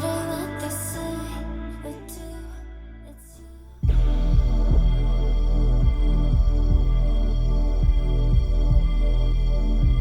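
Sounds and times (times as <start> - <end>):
ambient electronic music: 0.0 - 10.0.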